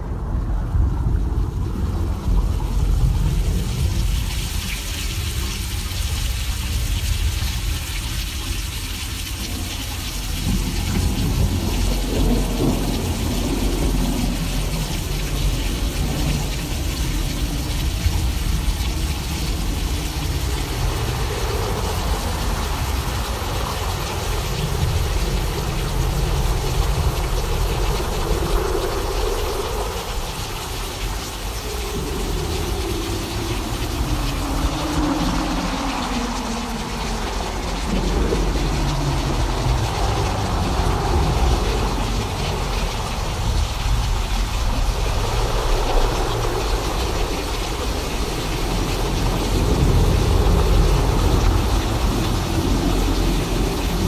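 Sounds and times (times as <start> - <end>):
deep rumble: 0.0 - 54.0
rain-like hiss: 0.0 - 54.0.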